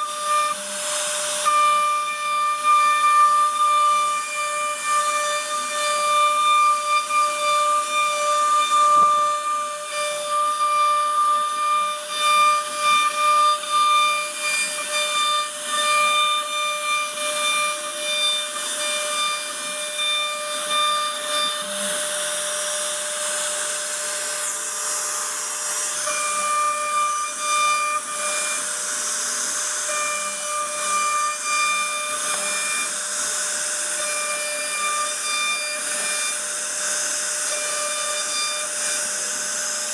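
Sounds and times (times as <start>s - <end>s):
hiss of bit cutting wood: 0.0s - 39.9s
router spindle whine: 0.0s - 39.9s.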